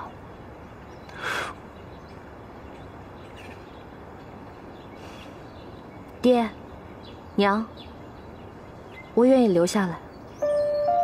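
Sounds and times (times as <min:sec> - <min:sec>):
faint bird chirps: 0:00.0 - 0:11.0
outdoor ambient hiss: 0:00.0 - 0:11.0.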